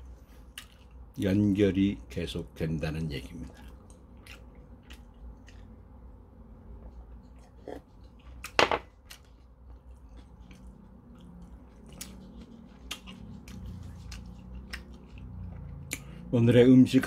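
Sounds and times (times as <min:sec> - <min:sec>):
person chewing food: 0:00.0 - 0:01.2, 0:03.3 - 0:16.3.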